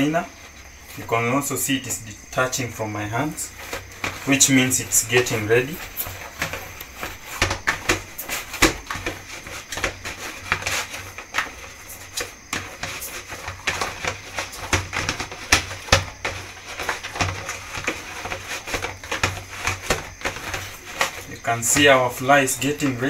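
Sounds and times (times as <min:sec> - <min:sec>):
hands kneading dough: 0:00.0 - 0:23.0.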